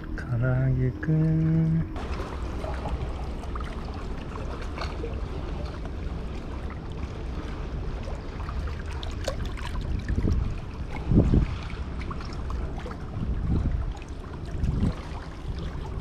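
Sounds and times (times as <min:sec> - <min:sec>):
water moving: 0:00.0 - 0:16.0
wind rumbling on microphone: 0:00.0 - 0:16.0.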